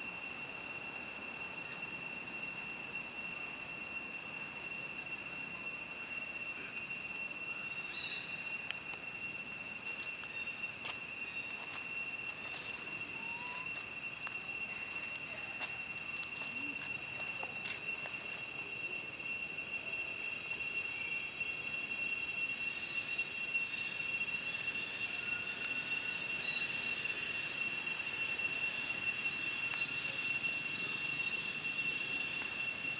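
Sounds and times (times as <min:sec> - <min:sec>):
insects singing: 0:00.0 - 0:32.9.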